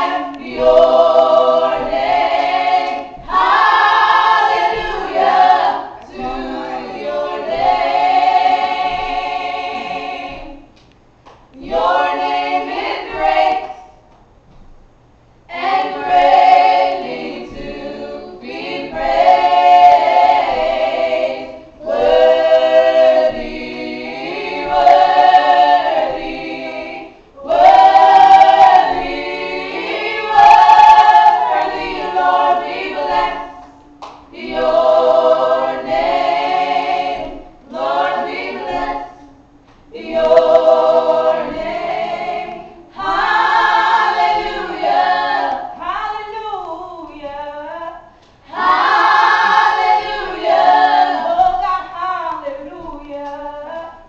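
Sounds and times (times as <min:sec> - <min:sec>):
women singing unaccompanied: 0:00.0 - 0:10.8, 0:15.5 - 0:54.0.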